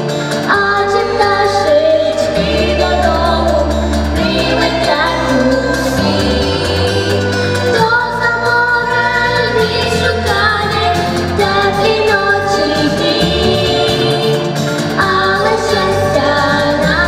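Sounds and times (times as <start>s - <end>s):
musical accompaniment: 0.0s - 17.0s
girl singing into microphone: 0.4s - 17.0s.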